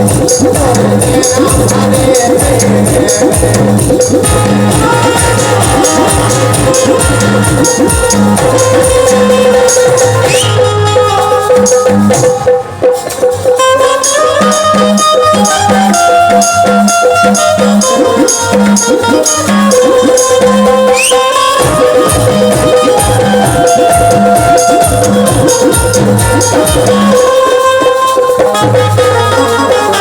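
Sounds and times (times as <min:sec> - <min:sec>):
instrumental music with steady beat: 0:00.0 - 0:30.0.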